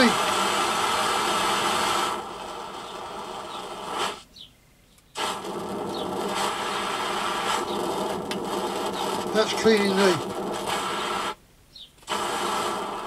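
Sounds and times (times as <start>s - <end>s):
stove burner hissing: 0.0s - 4.4s, 5.0s - 11.4s, 12.0s - 13.0s.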